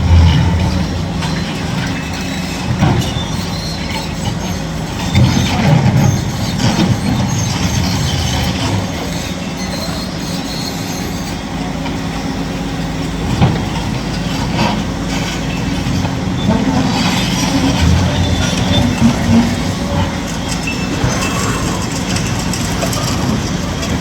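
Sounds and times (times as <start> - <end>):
high-pitched metallic squeals: 0.0 - 11.7, 15.2 - 24.0
excavator diesel engine: 0.0 - 24.0.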